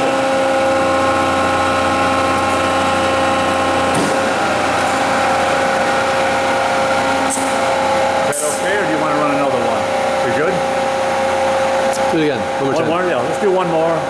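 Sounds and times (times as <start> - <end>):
surface grinder machine hum: 0.0 - 14.0.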